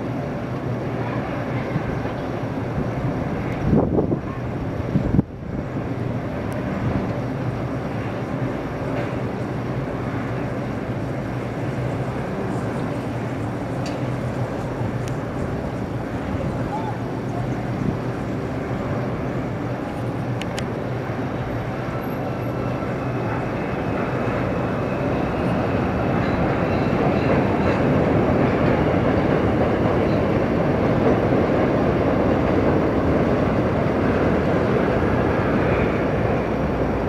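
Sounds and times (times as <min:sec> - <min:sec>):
subway train running past: 0:00.0 - 0:37.0.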